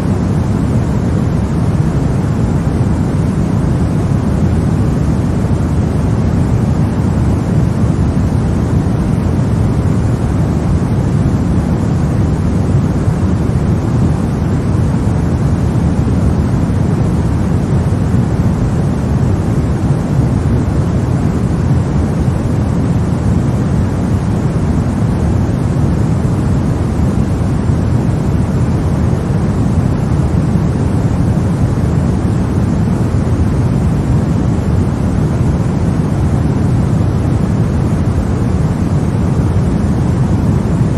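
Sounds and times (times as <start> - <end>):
deep white noise hiss: 0.0 - 40.9.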